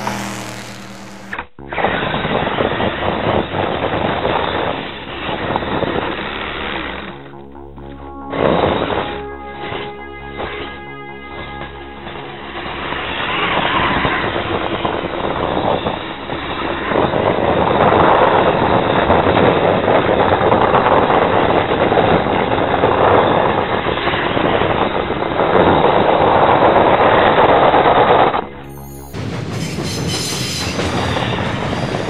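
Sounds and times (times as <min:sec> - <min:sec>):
loud vehicle engine: 0:00.0 - 0:29.8.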